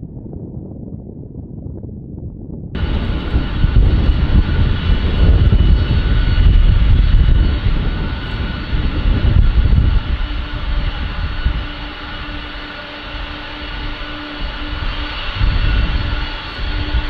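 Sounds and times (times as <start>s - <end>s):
jet engines rumbling and whining: 2.7s - 17.0s.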